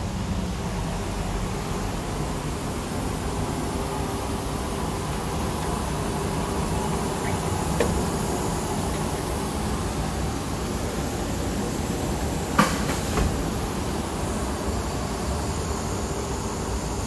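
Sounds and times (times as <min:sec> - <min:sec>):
workshop machinery drone: 0:00.4 - 0:17.0.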